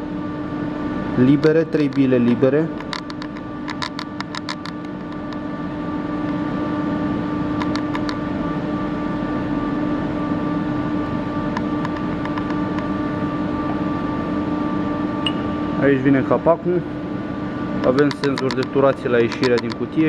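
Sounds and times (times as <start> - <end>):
workshop machinery hum: 0.0 - 20.0.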